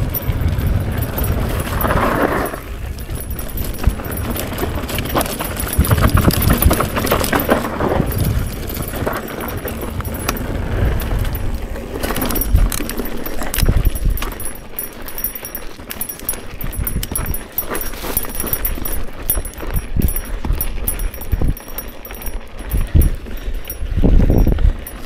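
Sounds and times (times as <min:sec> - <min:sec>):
bike rattling: 0:00.0 - 0:25.0
tyres crunching on dirt: 0:00.0 - 0:25.0
wind on microphone: 0:00.0 - 0:25.0.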